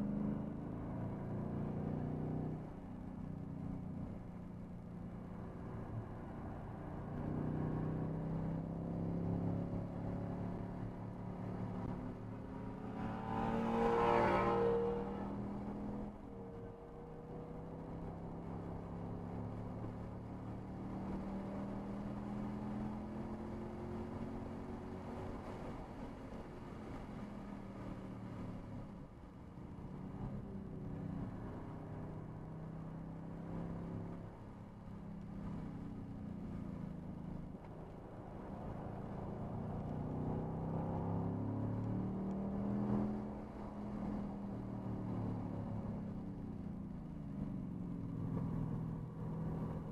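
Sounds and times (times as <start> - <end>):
car engine under hard throttle: 0.0 - 49.9.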